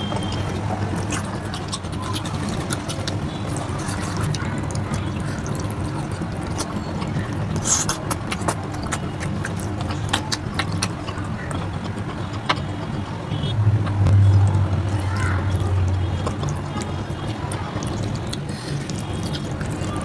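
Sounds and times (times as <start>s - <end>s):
fingers mixing wet rice on plate: 0.0s - 13.5s, 14.3s - 20.0s
chewing with lip smacks: 0.0s - 20.0s.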